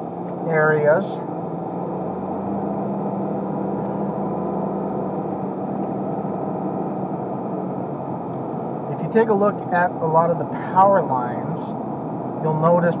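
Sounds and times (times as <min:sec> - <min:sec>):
car engine hum: 0:00.0 - 0:13.0
tyre and road noise: 0:00.0 - 0:13.0.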